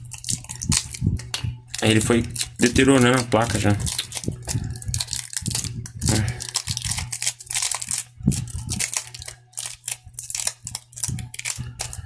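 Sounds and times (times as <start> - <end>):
low steady hum: 0.0 - 12.0
tape crinkling: 0.0 - 12.0.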